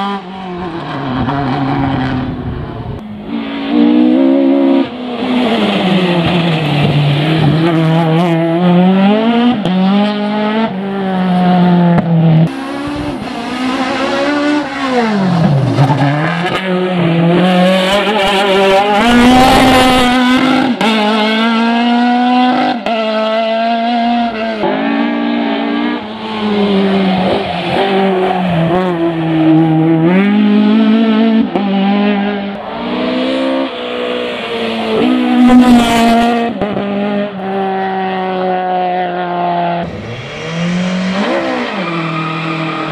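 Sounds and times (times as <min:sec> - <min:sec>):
racing engine revving: 0:00.0 - 0:42.9.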